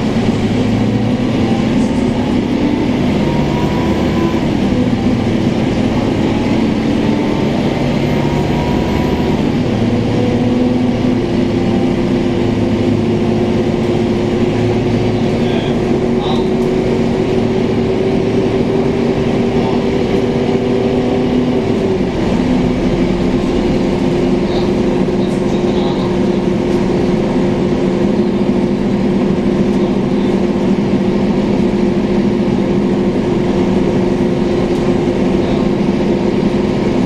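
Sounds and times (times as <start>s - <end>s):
bus engine drone with whine: 0.0s - 37.0s.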